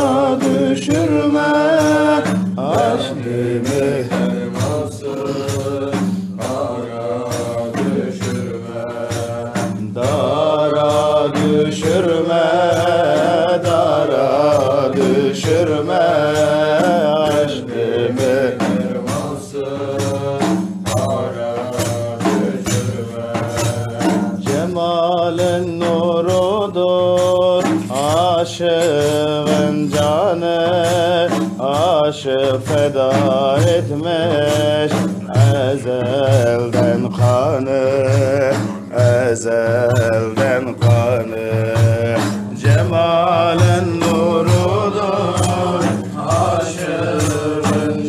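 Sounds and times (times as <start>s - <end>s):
low held vocal drone: 0.0s - 48.0s
sharp rhythmic strikes: 0.0s - 48.0s
solo male voice singing: 0.0s - 48.0s.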